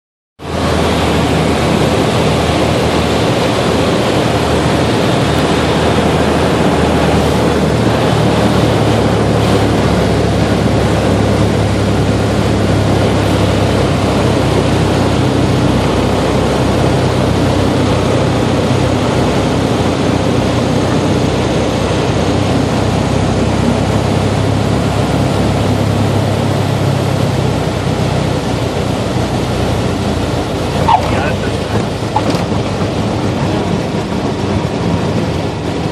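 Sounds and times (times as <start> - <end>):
light aircraft engine drone: 0.4 - 35.9
wind noise: 0.4 - 35.9.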